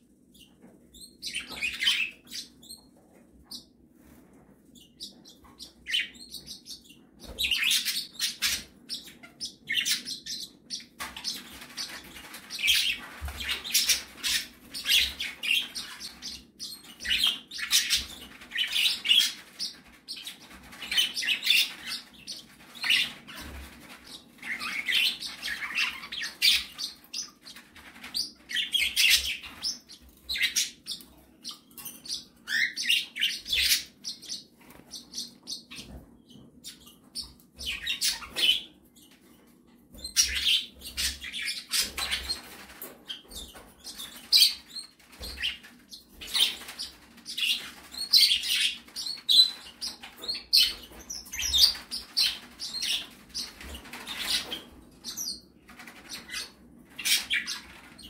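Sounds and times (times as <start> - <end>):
bird chirping: 0.3 - 3.8, 4.5 - 58.0.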